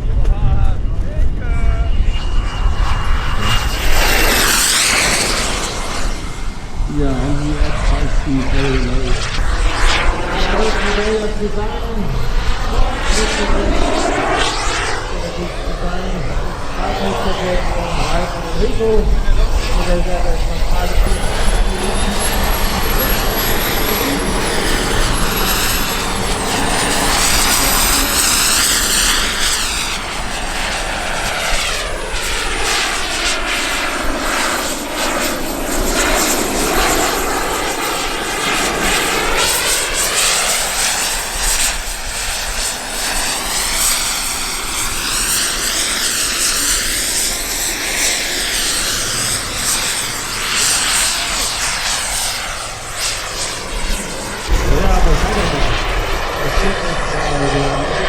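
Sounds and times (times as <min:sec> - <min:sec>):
model aircraft engine passing: 0:00.0 - 0:58.0.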